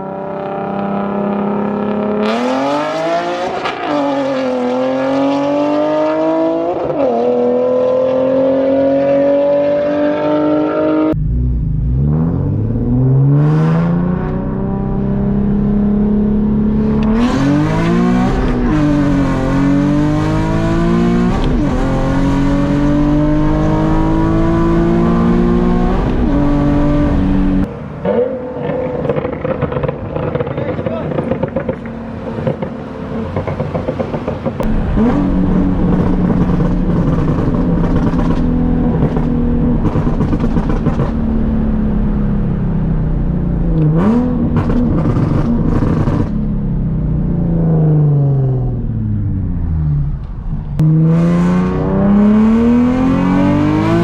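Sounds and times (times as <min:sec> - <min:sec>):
car engine accelerating through gears: 0:00.0 - 0:30.3, 0:33.5 - 0:54.0.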